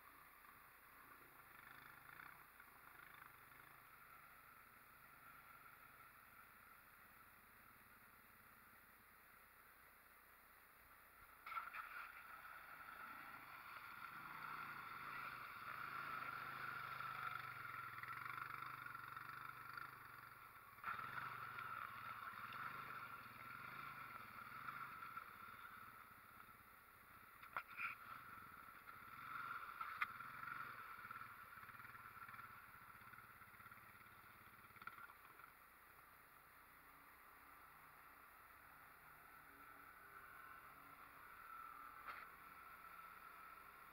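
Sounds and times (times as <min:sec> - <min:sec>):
atv engine running: 0:00.0 - 0:09.5, 0:11.1 - 0:43.9.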